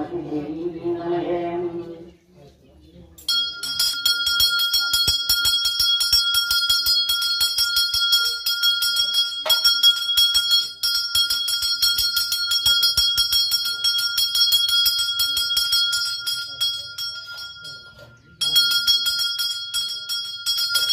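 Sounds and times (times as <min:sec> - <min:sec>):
hand bell ringing rapidly: 0:03.3 - 0:20.9.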